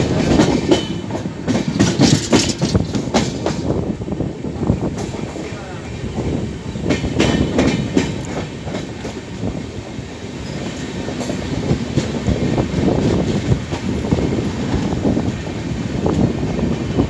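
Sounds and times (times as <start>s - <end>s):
train clatter and knocks: 0.0s - 17.0s
train wheels rumbling on rails: 0.0s - 17.0s.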